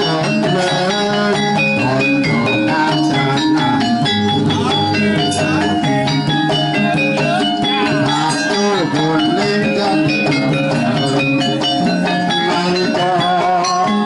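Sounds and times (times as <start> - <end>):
gamelan ensemble playing: 0.0 - 14.0
hand drum: 0.0 - 14.0.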